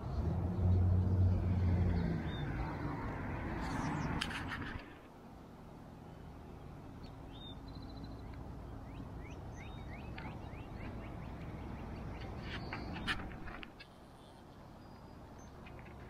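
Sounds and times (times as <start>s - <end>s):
birds chirping: 0.0s - 5.1s, 5.8s - 16.0s.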